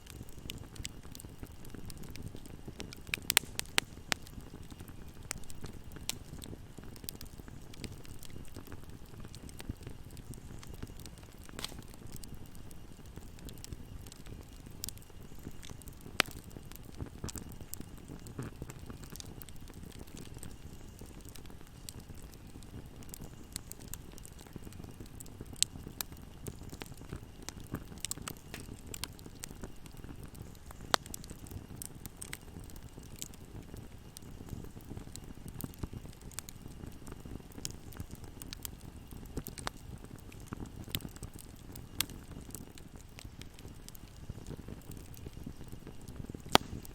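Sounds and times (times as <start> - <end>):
fire crackling and popping: 0.0 - 46.9
low fire rumble: 0.0 - 46.9.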